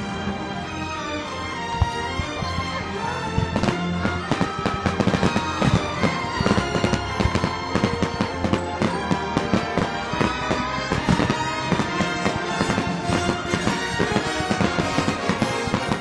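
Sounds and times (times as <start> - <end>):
music with held notes: 0.0 - 16.0
fireworks bangs and crackles: 1.6 - 16.0.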